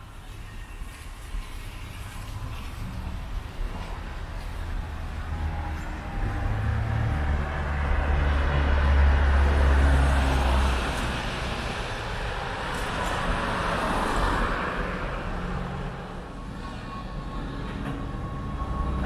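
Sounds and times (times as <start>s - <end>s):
cars passing on a street: 0.0s - 19.0s.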